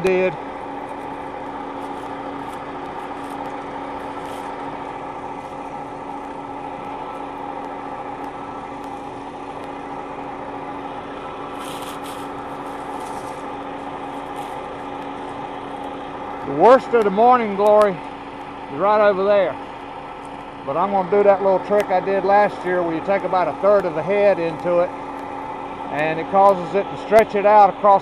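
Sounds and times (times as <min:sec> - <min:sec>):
combine harvester humming: 0:00.0 - 0:28.0.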